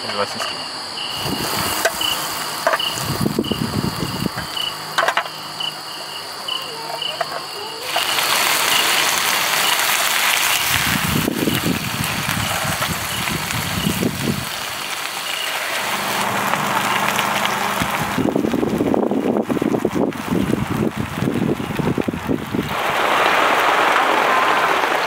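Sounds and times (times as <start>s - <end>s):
even hiss: 0.0s - 25.0s
insects chirping: 0.0s - 25.0s.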